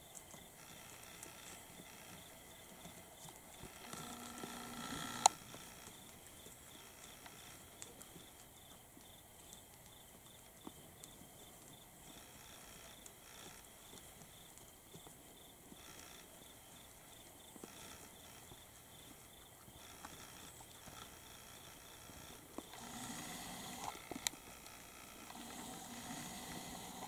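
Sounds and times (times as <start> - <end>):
quiet hiss: 0.0 - 27.0.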